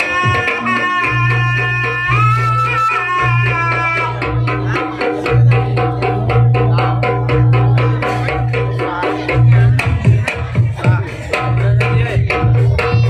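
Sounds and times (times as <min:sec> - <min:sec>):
fast dense drumming: 0:00.0 - 0:13.0.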